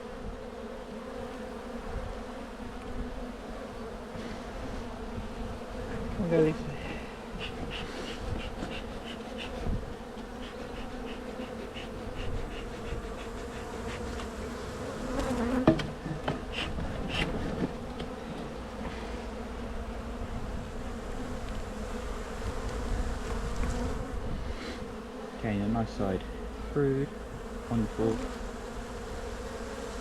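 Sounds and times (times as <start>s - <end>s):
honey bees humming: 0.0s - 30.0s.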